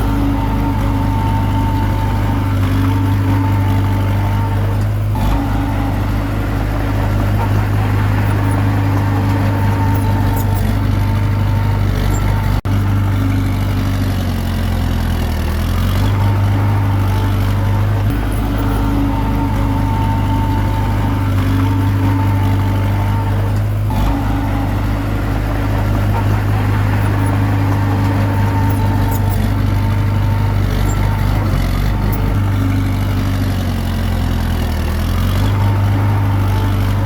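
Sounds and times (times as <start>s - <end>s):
bulldozer diesel engine under load: 0.0s - 37.0s.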